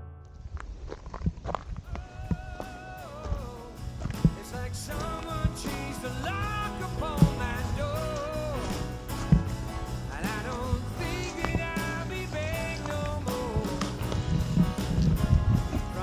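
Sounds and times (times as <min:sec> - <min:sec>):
rock song with singing: 0:01.9 - 0:16.0
steady drum beat: 0:02.0 - 0:16.0.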